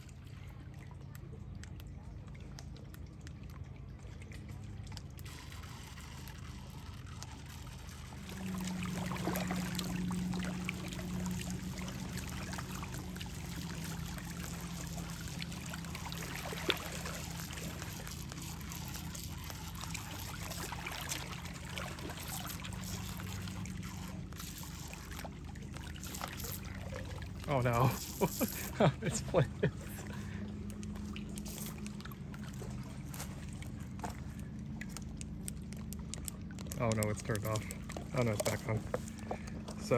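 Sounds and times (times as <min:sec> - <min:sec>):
small waves lapping on rocks: 0:00.0 - 0:39.9
steady low hum: 0:00.0 - 0:39.9.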